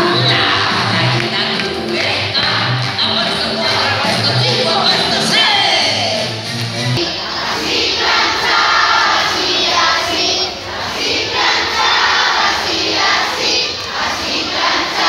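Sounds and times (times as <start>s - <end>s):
crowd singing and shouting: 0.0s - 15.0s.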